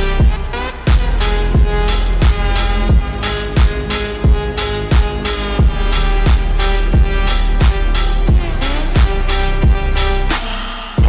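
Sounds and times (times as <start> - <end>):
sustained melody line: 0.0 - 10.4
deep kick drum: 0.2 - 9.9.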